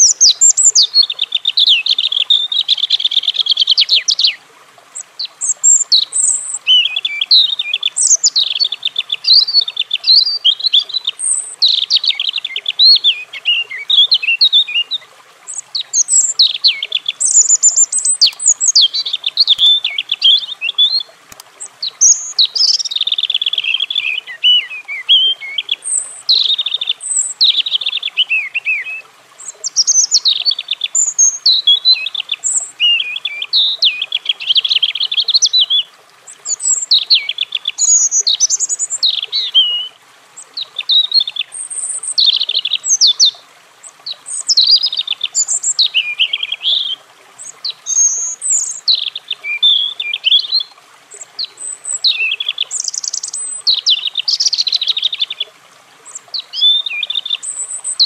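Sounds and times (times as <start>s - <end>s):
robin singing: 0.0s - 4.4s, 5.0s - 58.0s.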